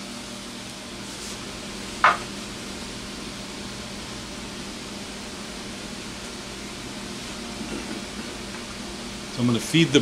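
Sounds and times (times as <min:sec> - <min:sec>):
workshop background hum: 0:00.0 - 0:10.0.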